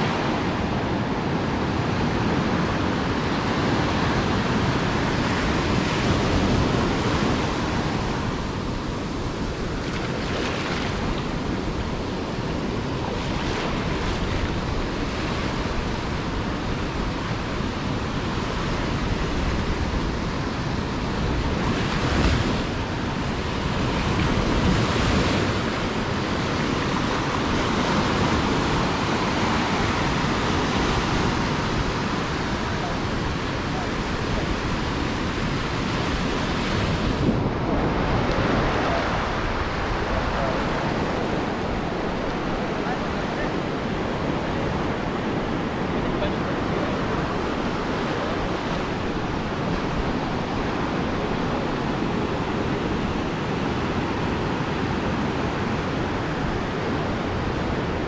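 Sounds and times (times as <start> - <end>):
ocean waves breaking: 0.0 - 58.0
wind on microphone: 0.0 - 58.0.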